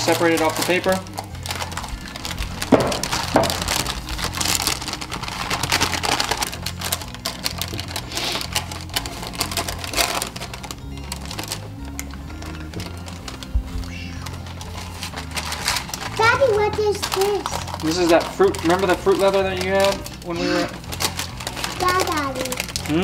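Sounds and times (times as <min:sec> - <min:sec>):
background music: 0:00.0 - 0:23.0
parchment paper crinkling: 0:00.0 - 0:23.0.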